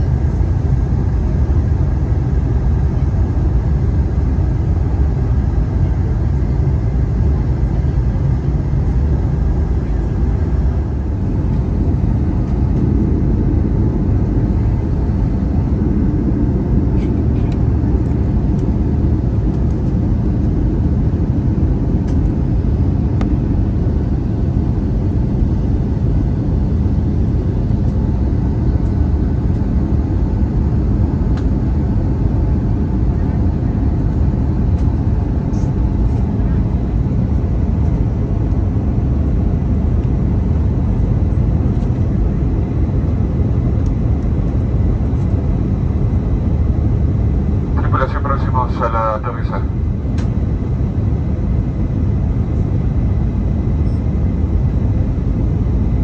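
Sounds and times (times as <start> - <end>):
aircraft cabin engine roar: 0.0 - 56.0.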